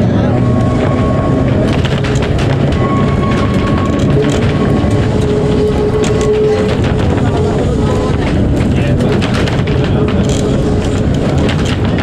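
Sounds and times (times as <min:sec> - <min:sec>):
rumble of tram wheels: 0:00.0 - 0:12.0.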